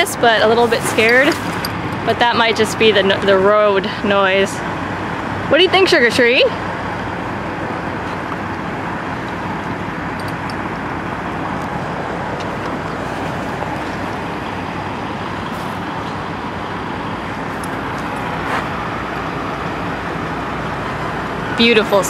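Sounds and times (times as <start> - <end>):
steady traffic rumble and hiss: 0.0 - 22.0.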